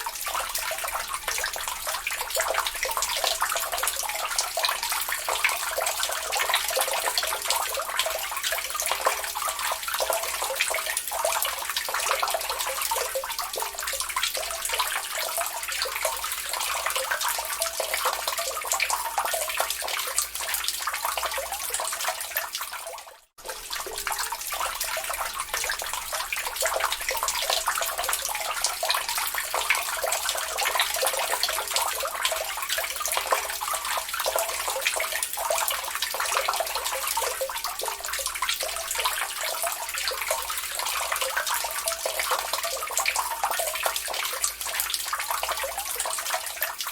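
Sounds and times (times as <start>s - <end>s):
water dripping into a lake: 0.0s - 46.9s.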